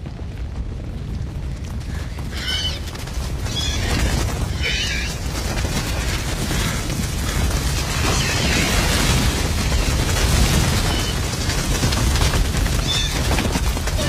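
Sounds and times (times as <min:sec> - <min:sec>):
stampede of pounding footfalls: 0:00.0 - 0:14.0.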